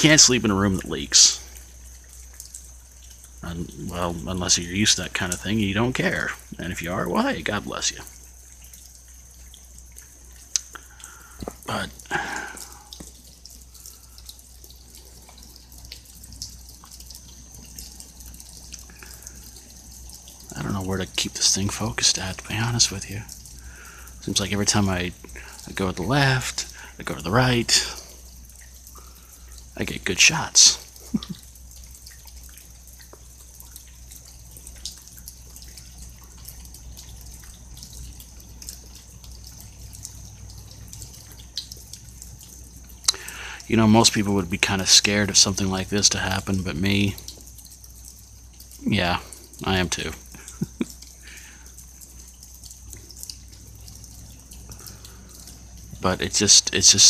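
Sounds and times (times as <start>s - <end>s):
rain falling: 0.0s - 57.0s
steady low hum: 0.0s - 57.0s
water drops dripping: 0.0s - 57.0s.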